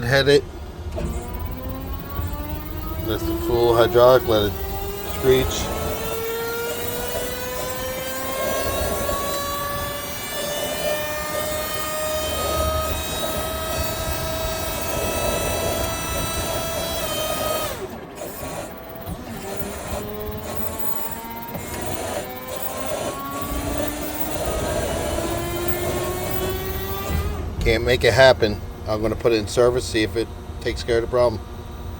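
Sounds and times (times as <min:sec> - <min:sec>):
hydraulic pump whining: 0:00.0 - 0:31.9.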